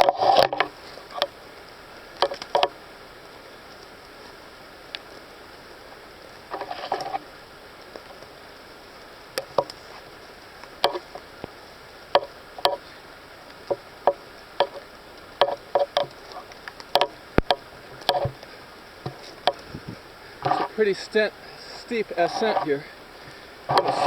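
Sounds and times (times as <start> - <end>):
rustle: 0.0 - 24.0
steady background hiss: 0.0 - 24.0.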